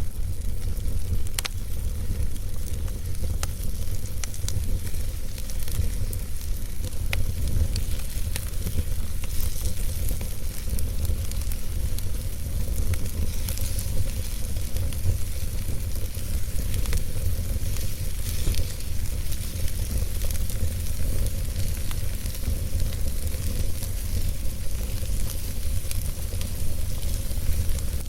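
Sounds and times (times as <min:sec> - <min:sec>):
logs crackling and popping: 0:00.0 - 0:28.0
wood fire burning: 0:00.0 - 0:28.0.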